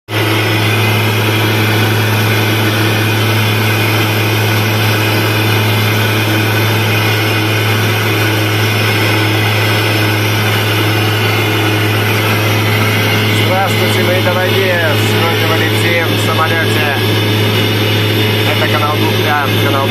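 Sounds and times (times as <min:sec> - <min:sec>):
aircraft cabin drone: 0:00.1 - 0:19.9.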